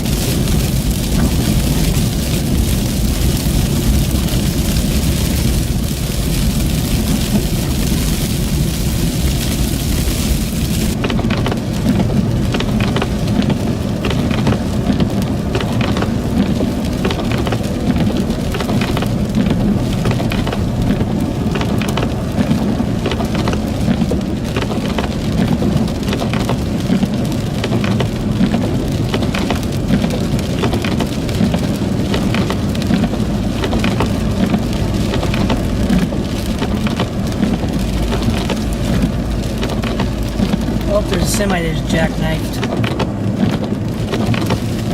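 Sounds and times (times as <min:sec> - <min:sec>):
vehicle rumbling on road: 0:00.0 - 0:44.9.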